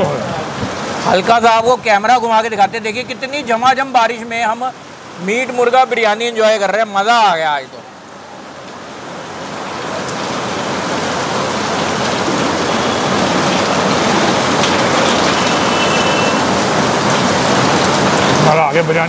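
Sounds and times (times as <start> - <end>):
heavy rain on a street: 0.0 - 19.0.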